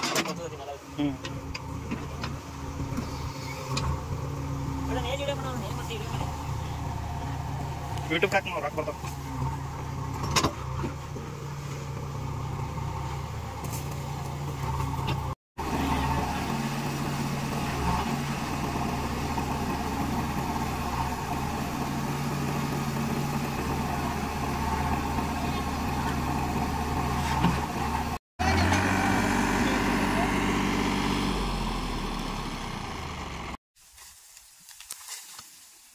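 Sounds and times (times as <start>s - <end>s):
diesel engine running: 0.0s - 33.6s.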